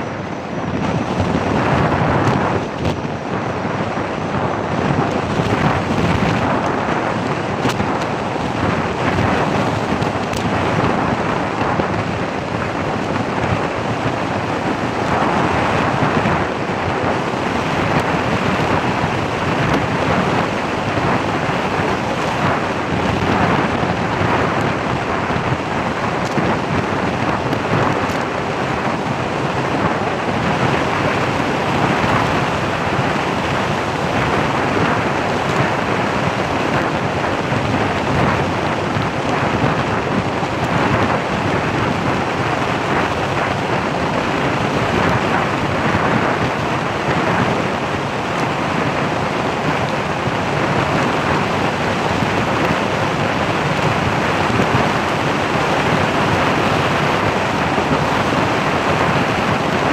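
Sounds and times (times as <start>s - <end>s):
vehicle road noise: 0.0s - 59.9s
wind buffeting microphone: 0.0s - 59.9s.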